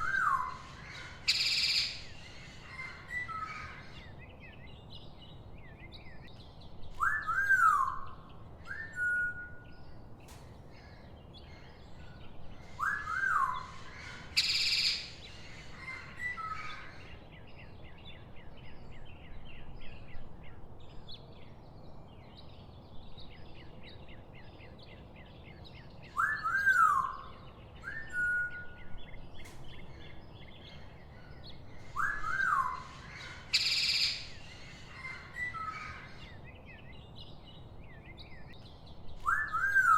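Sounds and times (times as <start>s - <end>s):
birds whistling and chirping: 0.0s - 39.9s.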